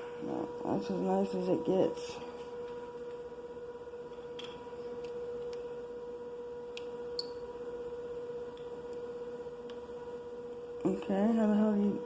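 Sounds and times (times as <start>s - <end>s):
steady electronic hum: 0.0s - 12.0s.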